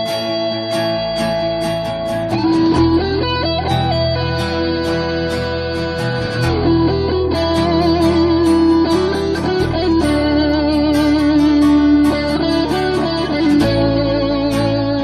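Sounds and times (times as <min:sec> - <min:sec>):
electric guitar lead bends: 0:00.0 - 0:15.0
rock band instrumental: 0:00.0 - 0:15.0.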